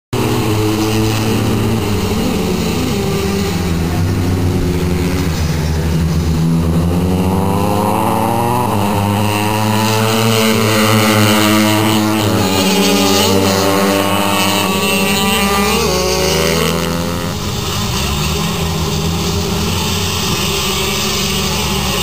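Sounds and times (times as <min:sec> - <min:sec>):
racing motorcycle engines: 0:00.1 - 0:22.0.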